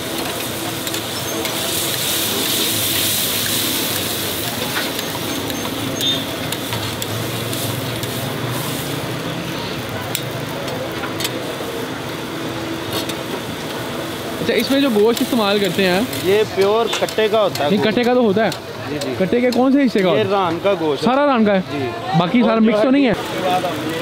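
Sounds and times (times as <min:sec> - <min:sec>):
meat sizzling in hot oil: 0:00.0 - 0:21.0, 0:23.2 - 0:24.0.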